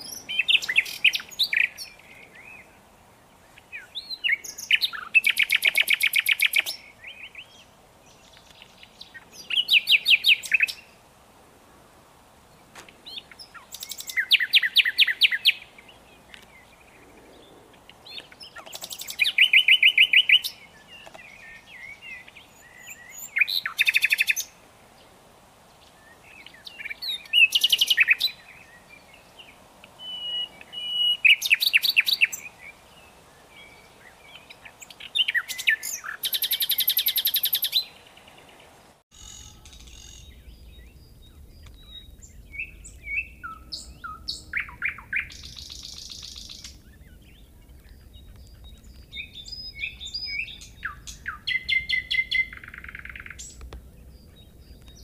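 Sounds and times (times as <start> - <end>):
nightingale singing: 0.0 - 11.0, 13.0 - 24.6, 25.8 - 55.0.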